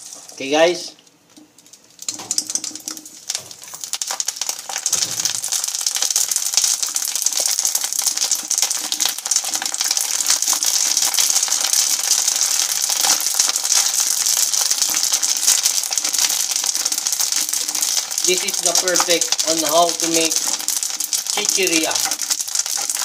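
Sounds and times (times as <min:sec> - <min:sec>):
pasta deep-frying in hot oil: 0:00.0 - 0:23.0.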